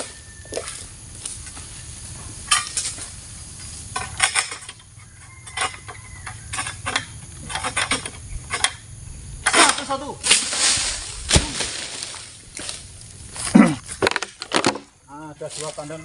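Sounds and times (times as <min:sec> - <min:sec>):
sickle cutting palm fronds: 0:00.0 - 0:08.8, 0:09.4 - 0:16.0.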